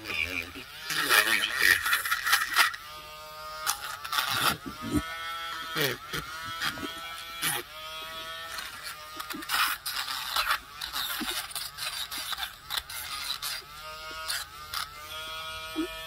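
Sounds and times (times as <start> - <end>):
electric rotary tool grinding resin: 0.0 - 16.0.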